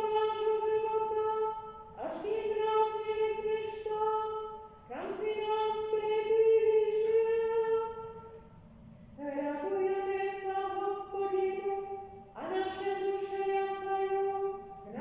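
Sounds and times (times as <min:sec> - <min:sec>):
slow hymn singing: 0:00.0 - 0:08.6, 0:09.2 - 0:15.0.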